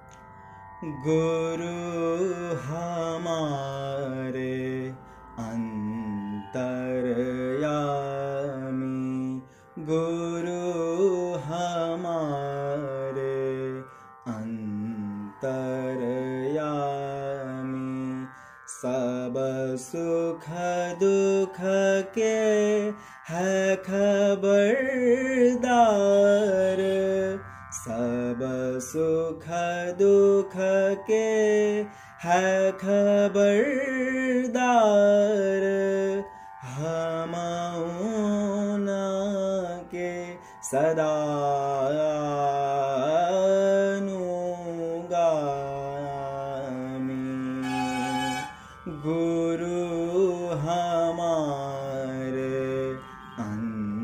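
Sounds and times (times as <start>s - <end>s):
faint steady drone: 0.0s - 54.0s
man singing devotional song: 0.8s - 54.0s.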